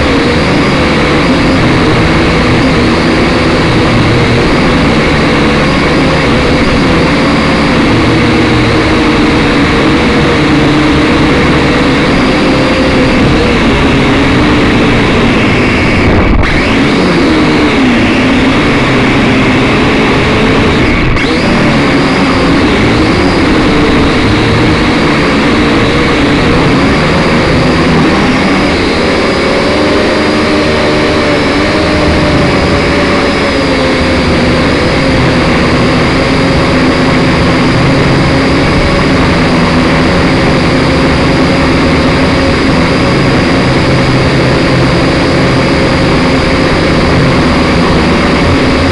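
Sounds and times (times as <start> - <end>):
drone propellers whining: 0.0 - 48.9.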